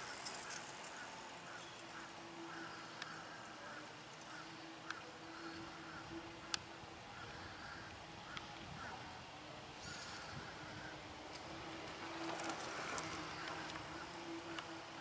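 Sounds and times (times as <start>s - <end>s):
distant calls: 0.0s - 15.0s
low steady hiss and murmur: 0.0s - 15.0s.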